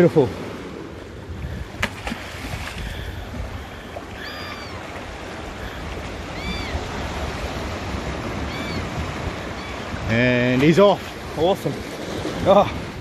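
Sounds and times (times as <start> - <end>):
waves washing around rocks: 0.0 - 13.0.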